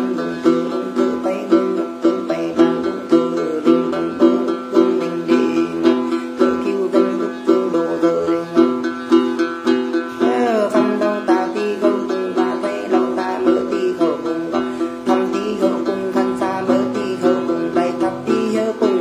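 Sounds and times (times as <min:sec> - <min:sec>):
lute strummed: 0:00.0 - 0:19.0
person singing: 0:00.0 - 0:19.0.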